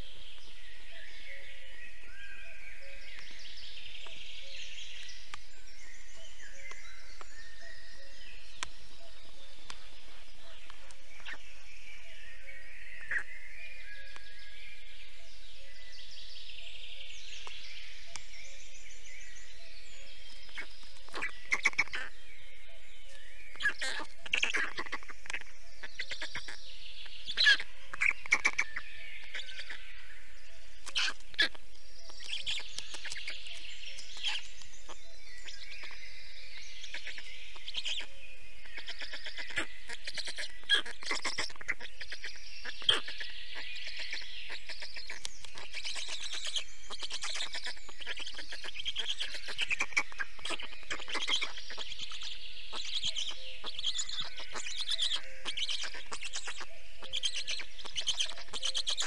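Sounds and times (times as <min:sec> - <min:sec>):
songbirds singing and chirping: 0:00.0 - 0:59.0.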